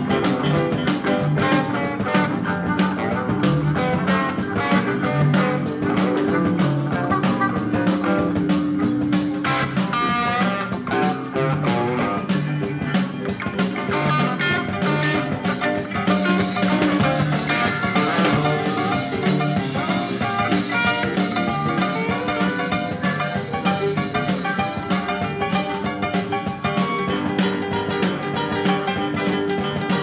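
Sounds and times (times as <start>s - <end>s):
blues-rock band instrumental: 0.0s - 30.0s.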